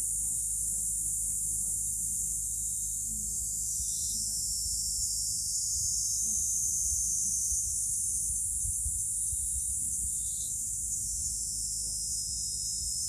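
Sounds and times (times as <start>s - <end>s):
low uneven rumble: 0.0s - 12.4s
high-pitched hiss: 0.0s - 13.0s.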